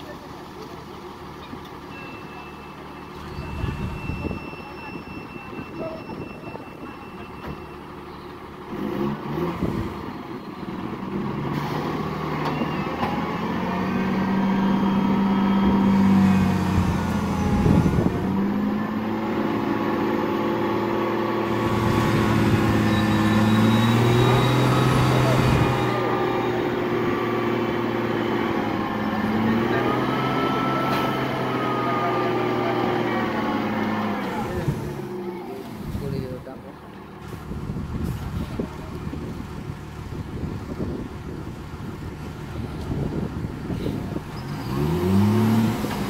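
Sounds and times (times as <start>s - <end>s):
heavy diesel engine revving: 7.9s - 46.0s.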